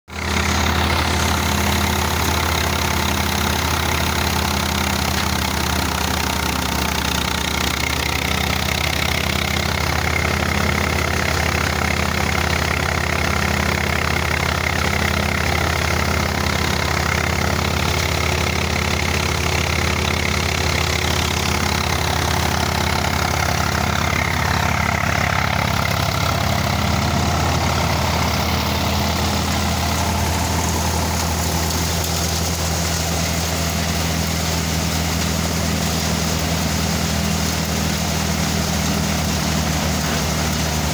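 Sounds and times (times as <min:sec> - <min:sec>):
tractor engine droning: 0:00.0 - 0:40.9
threshing machinery noise: 0:00.1 - 0:40.9.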